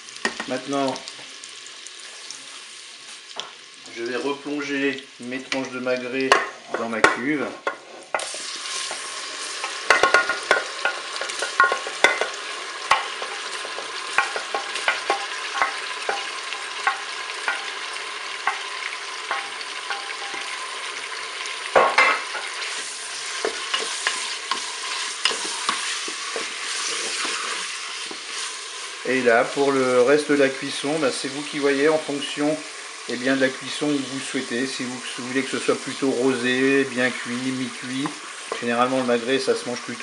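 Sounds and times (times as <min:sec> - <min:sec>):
sauce sizzling and bubbling: 0:00.0 - 0:40.0.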